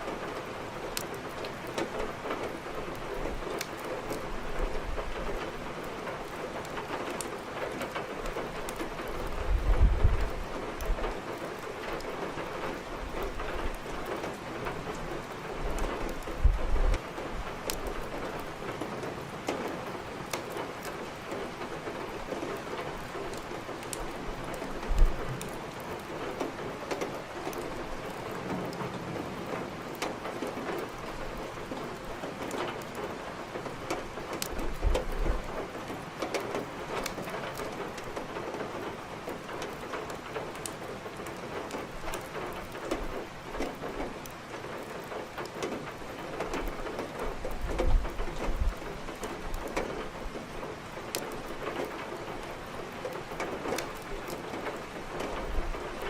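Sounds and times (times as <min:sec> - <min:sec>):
steady rain: 0:00.0 - 0:56.0
firewood crackling: 0:00.4 - 0:03.0, 0:03.6 - 0:28.8, 0:29.8 - 0:56.0.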